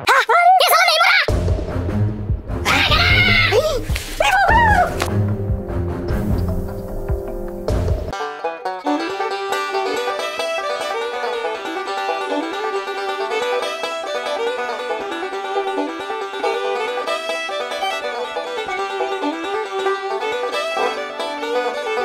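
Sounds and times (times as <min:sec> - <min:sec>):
upbeat banjo music: 0:03.9 - 0:22.0.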